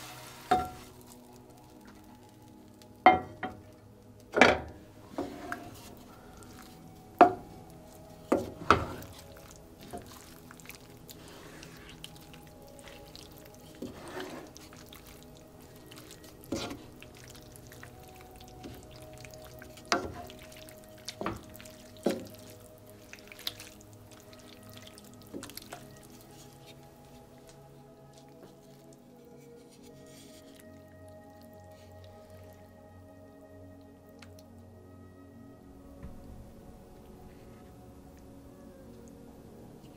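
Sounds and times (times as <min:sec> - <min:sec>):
soft background music: 0:00.0 - 0:39.9.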